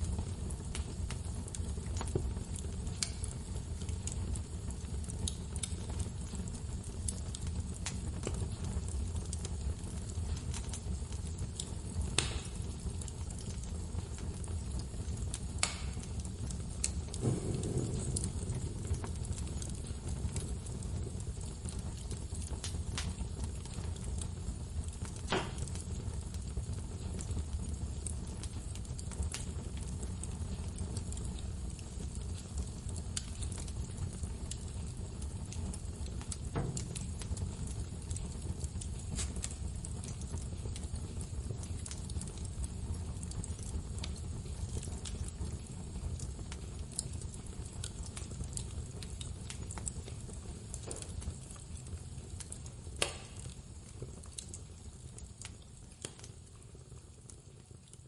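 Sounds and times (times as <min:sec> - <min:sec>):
low fire rumble: 0:00.0 - 0:58.0
wood fire crackling and popping: 0:00.0 - 0:58.0.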